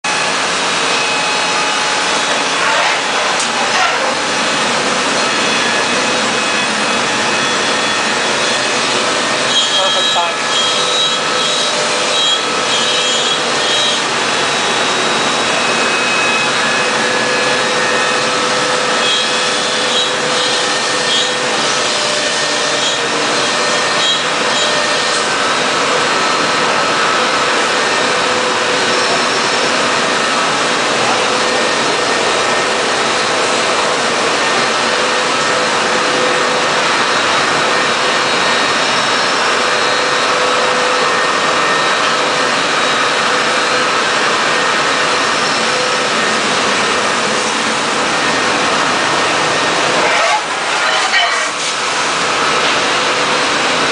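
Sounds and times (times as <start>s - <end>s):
router machine rushing and whining: 0.0s - 53.9s.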